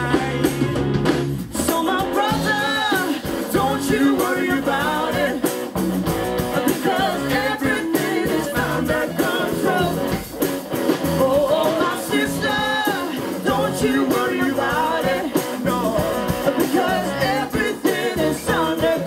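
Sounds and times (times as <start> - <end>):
man singing: 0.0 - 5.5, 6.5 - 10.3, 11.2 - 19.0
drum kit: 0.0 - 19.0
electric guitars: 0.0 - 19.0
woman singing: 1.6 - 5.5, 6.5 - 10.3, 11.2 - 19.0.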